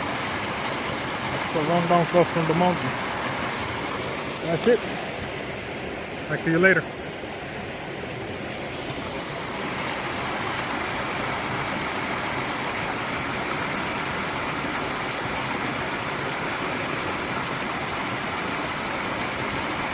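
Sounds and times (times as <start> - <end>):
water rushing over waterfall: 0.0 - 19.9.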